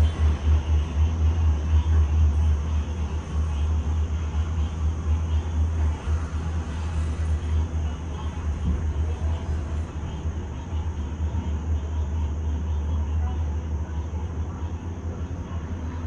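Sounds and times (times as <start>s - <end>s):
gondola cabin rumbling: 0.0s - 16.0s.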